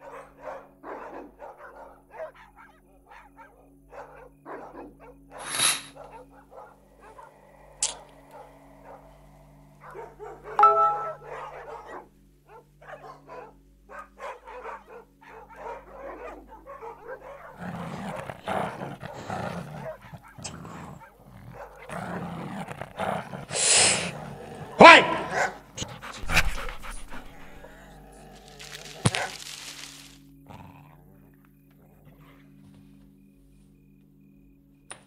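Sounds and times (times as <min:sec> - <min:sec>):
dogs barking: 0:00.0 - 0:30.1.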